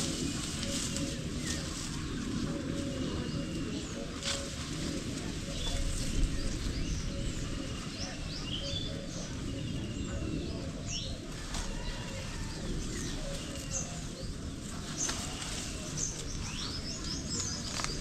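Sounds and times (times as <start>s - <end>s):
small birds chirping: 0.0s - 18.0s
steady low background noise: 0.0s - 18.0s.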